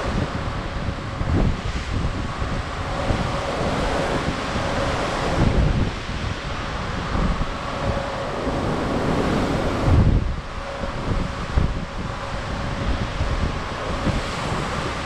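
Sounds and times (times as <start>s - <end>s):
faint steady hum: 0.0s - 15.0s
ocean swells rushing past hull: 0.0s - 15.0s
wind gusting on microphone: 0.0s - 15.0s.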